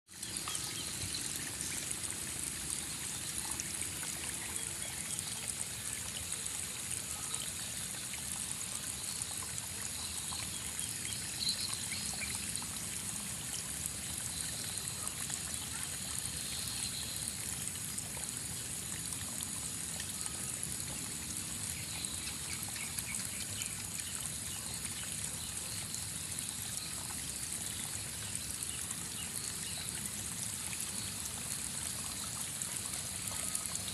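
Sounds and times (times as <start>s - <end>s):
running water trickling: 0.1s - 33.9s.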